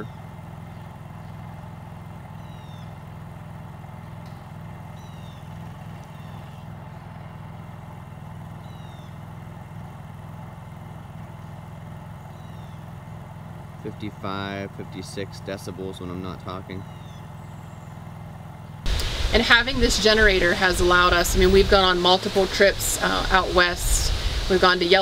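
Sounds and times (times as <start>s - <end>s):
generator running: 0.0s - 25.0s.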